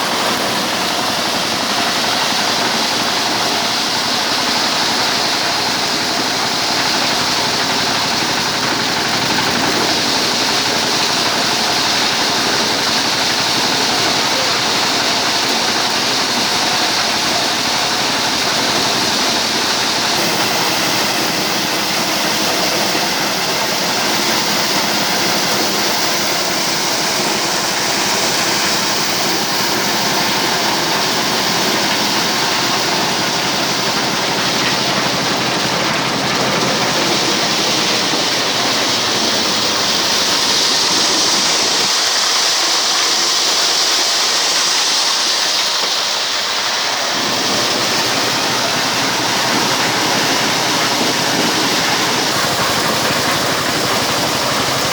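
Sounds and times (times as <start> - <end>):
diesel engine drone: 0.0 - 44.4, 45.1 - 54.9
corn sheller rushing noise: 0.0 - 54.9.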